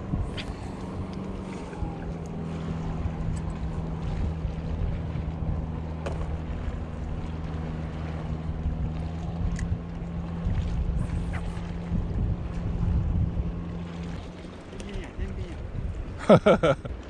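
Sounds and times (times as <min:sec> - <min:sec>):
wind noise on microphone: 0:00.0 - 0:14.3, 0:15.0 - 0:17.0
boat engine running: 0:00.0 - 0:17.0.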